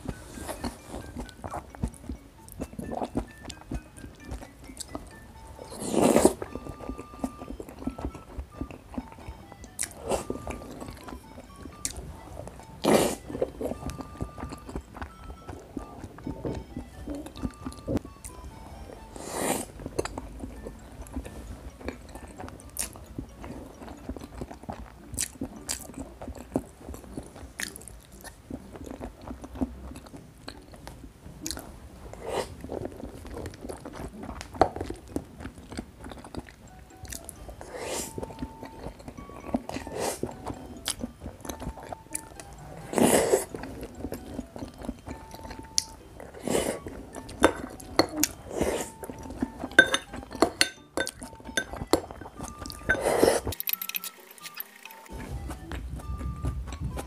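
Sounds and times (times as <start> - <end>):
close chewing and biting: 0.0 - 57.0
soft background music: 0.0 - 57.0.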